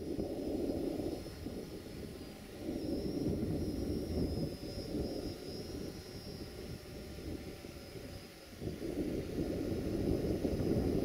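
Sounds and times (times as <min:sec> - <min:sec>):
drone propellers buzzing: 0:00.0 - 0:11.0
thin high whine: 0:00.0 - 0:11.0.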